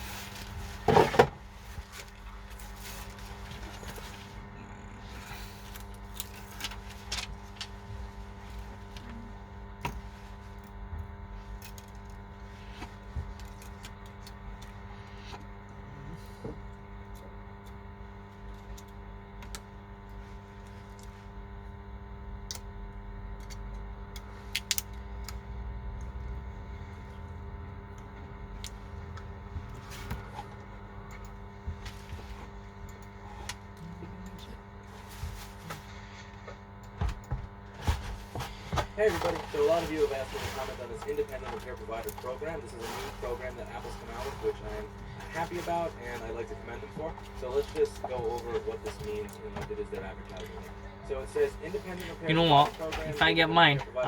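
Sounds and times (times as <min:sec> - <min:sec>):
electrical hum: 0:00.0 - 0:54.0.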